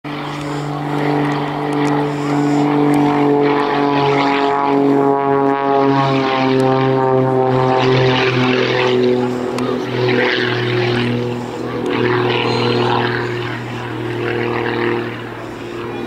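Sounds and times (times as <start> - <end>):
propeller plane engine buzzing: 0.0 - 16.0.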